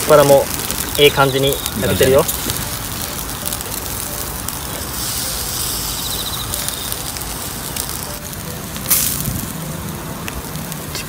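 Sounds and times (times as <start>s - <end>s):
coals crackling and popping: 0.0s - 11.0s
food sizzling on a grill: 0.0s - 11.0s.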